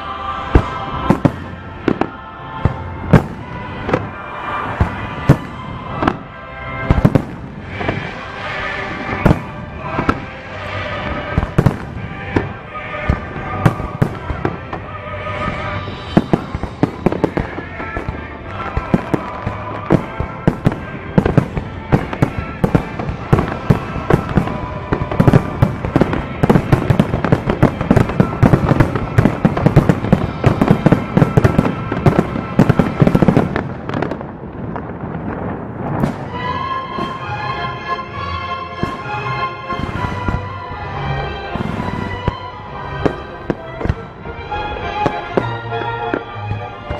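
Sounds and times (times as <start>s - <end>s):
music playing: 0.0s - 35.4s, 36.0s - 46.9s
fireworks bangs and crackles: 0.4s - 37.8s, 38.6s - 46.9s.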